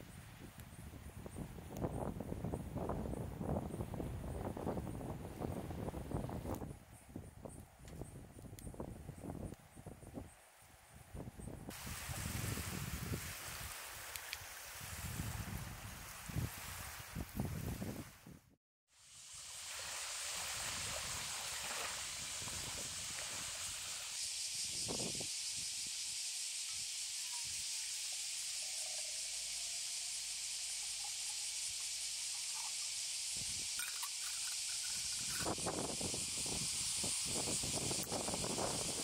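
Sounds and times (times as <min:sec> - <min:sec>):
steady high hiss: 0:00.0 - 0:17.8, 0:18.9 - 0:39.0.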